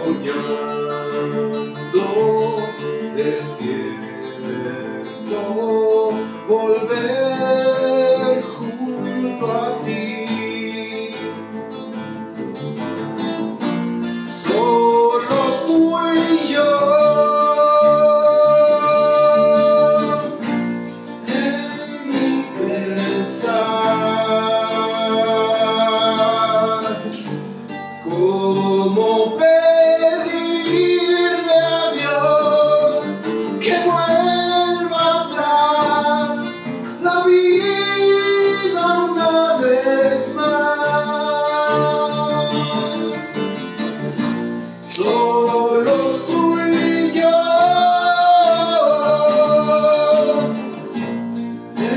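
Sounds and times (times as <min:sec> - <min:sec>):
man singing: 0:00.0 - 0:12.0, 0:14.2 - 0:51.9
acoustic bass guitar: 0:00.0 - 0:51.9
plucked nylon-string guitar: 0:00.0 - 0:51.9.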